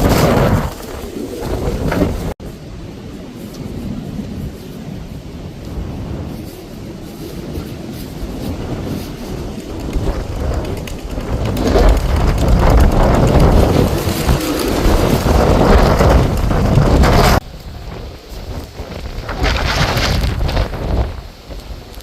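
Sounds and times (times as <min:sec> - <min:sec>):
strong wind gusting on microphone: 0:00.0 - 0:22.0.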